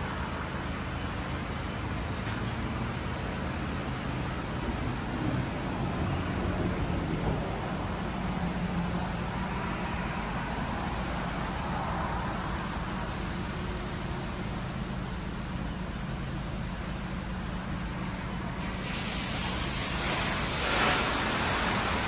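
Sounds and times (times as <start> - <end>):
car wash rushing noise: 0.0 - 22.0.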